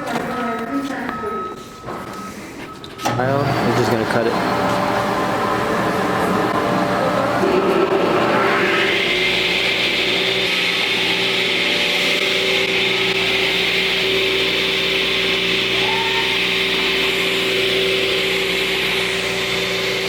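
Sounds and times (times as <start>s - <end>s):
power saw cutting plywood: 3.1s - 20.0s.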